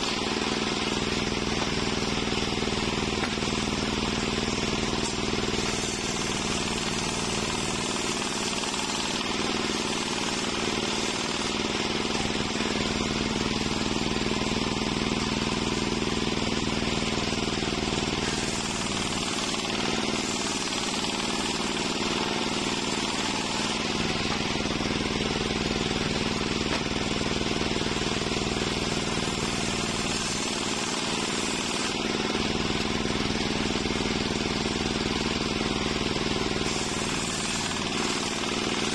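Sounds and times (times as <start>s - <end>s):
circular saw cutting timber: 0.0s - 38.9s.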